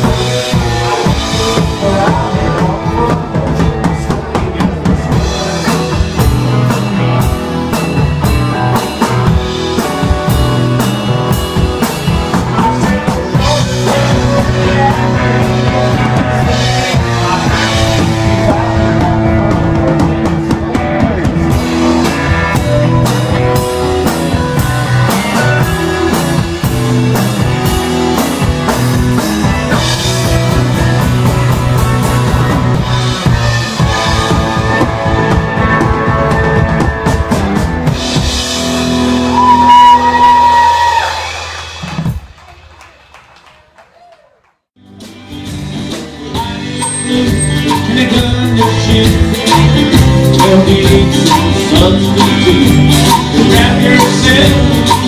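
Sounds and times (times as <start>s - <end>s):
live rock band playing: 0.0s - 42.4s, 44.8s - 55.0s
drum kit beat: 0.0s - 42.6s, 44.8s - 55.0s.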